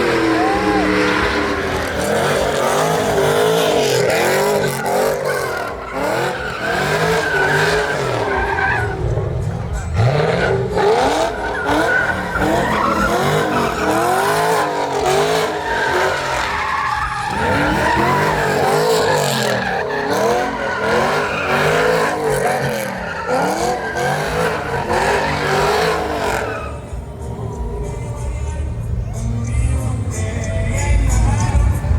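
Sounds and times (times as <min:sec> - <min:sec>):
tyres squealing: 0:00.0 - 0:27.6
truck engine revving: 0:00.0 - 0:31.9.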